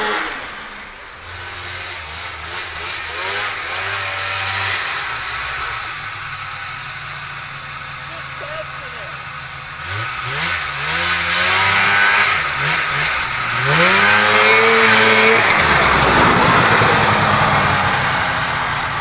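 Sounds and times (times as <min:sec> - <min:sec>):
snowmobile engine revving: 0:00.0 - 0:19.0
snowmobile rushing past: 0:00.0 - 0:19.0.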